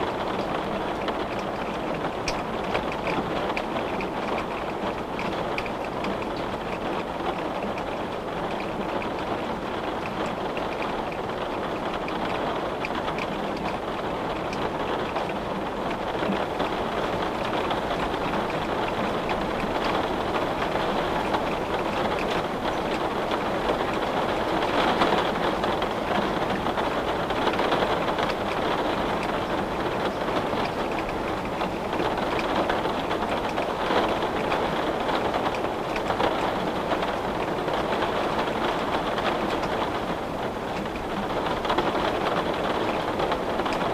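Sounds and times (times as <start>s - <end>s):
rain pattering on a window: 0.0s - 43.9s.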